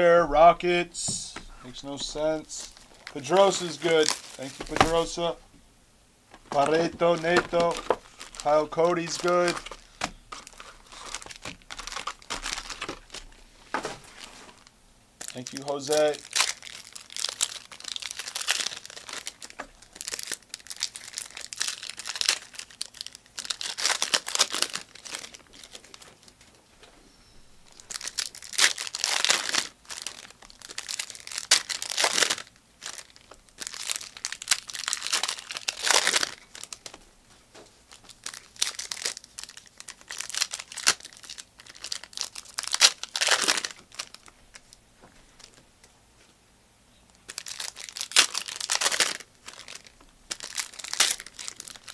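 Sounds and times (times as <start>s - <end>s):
plastic wrappers crinkling and tearing: 1.3s - 5.4s, 6.3s - 26.6s, 27.7s - 45.6s, 47.2s - 51.9s.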